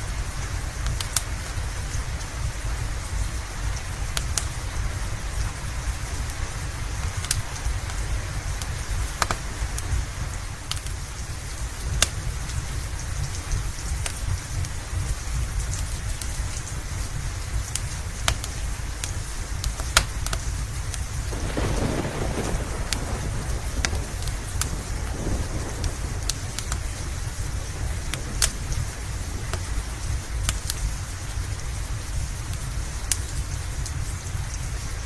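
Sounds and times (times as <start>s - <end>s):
low continuous rumble: 0.0s - 35.0s
rain hissing: 0.0s - 35.0s
wood fire crackling: 0.0s - 35.0s.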